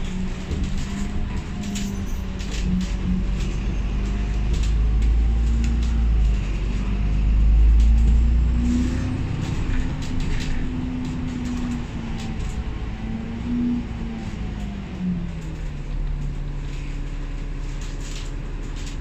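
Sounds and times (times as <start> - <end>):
bus engine rumble: 0.0 - 19.0
steady drivetrain hum: 0.0 - 19.0.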